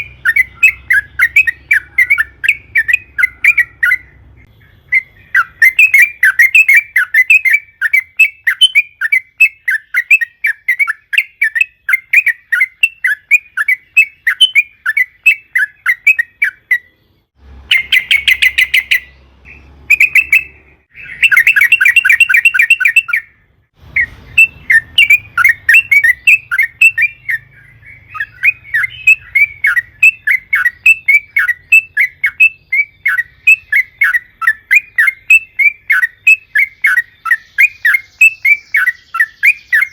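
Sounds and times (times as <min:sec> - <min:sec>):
bird chattering song: 0:00.0 - 0:39.9
bird rapid trill: 0:00.0 - 0:39.9.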